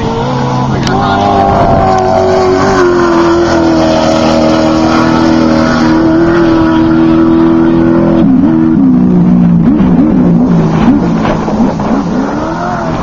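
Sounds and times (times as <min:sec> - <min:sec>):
loud engine at high revs: 0:00.0 - 0:13.0.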